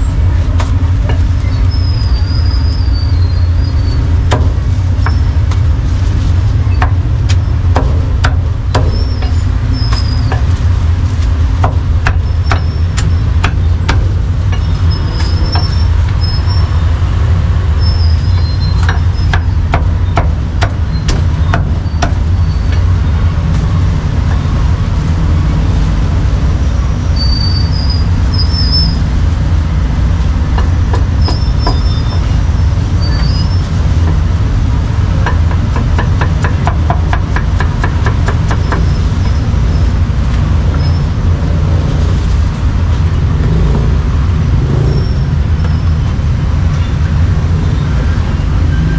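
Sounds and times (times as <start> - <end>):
street traffic rumble: 0.0 - 48.9.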